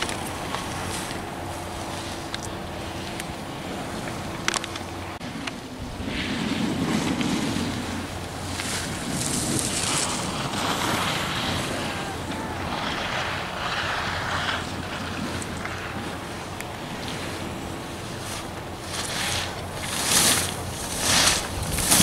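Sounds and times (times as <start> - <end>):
low rumble: 0.0 - 18.2
skis carving on snow: 0.0 - 22.0
wind rushing over microphone: 0.0 - 22.0.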